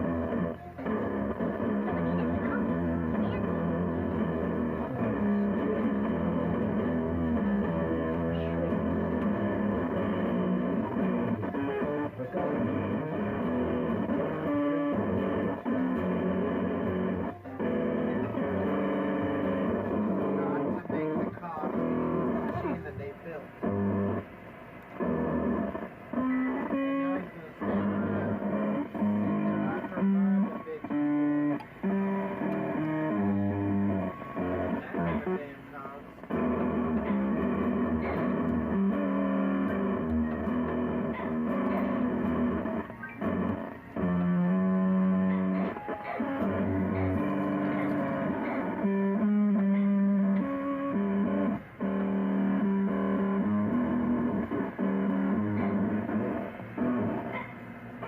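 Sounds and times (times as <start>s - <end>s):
bass: 0.0s - 58.0s
electric guitar strumming chords: 0.0s - 58.0s.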